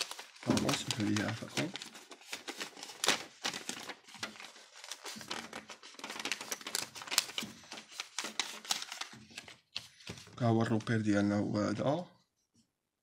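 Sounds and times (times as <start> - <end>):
thin sheet crinkling: 0.0 - 11.1.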